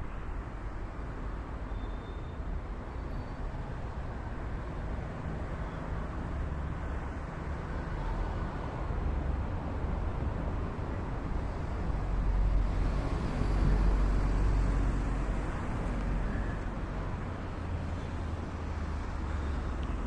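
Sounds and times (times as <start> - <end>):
low rumbling outdoor background noise: 0.0 - 20.0.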